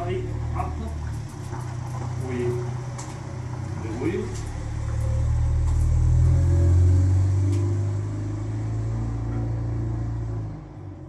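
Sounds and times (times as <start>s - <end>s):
motor rumbling: 0.0s - 11.0s.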